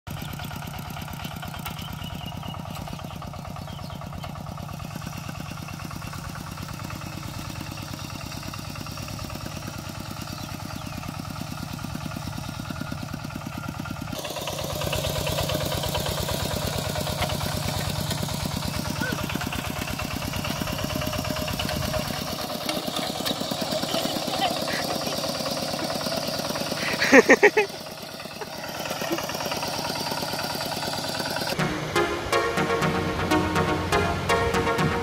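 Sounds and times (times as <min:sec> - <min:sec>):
diesel engine chugging: 0:00.1 - 0:35.0.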